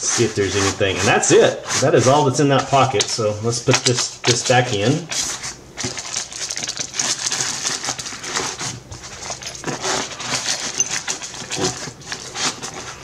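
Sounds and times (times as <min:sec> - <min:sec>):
paper and fabric rustling: 0:00.0 - 0:13.0.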